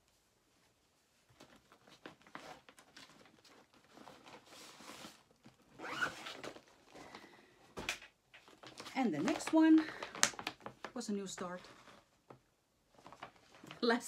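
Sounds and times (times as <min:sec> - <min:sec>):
fabric rustling with clicks: 0:00.0 - 0:14.0.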